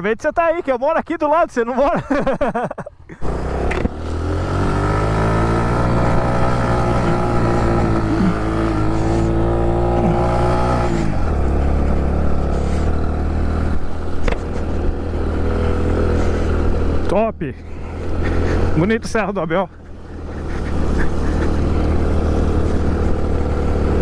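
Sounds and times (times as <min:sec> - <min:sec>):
motorcycle engine accelerating: 0:03.1 - 0:24.0.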